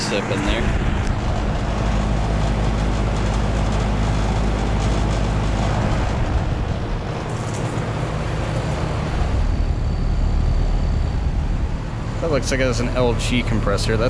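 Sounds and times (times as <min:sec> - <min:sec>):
compressor low hum: 0:00.0 - 0:14.0
condenser fan rushing: 0:00.0 - 0:14.0.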